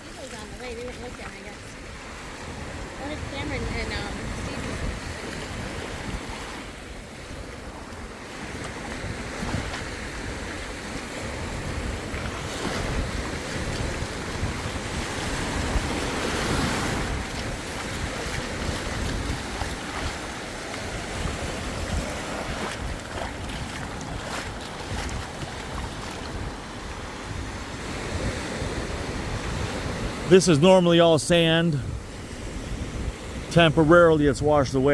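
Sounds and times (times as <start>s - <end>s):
wind buffeting microphone: 0.0s - 30.8s, 31.5s - 34.9s
surf washing onto beach: 0.0s - 34.9s.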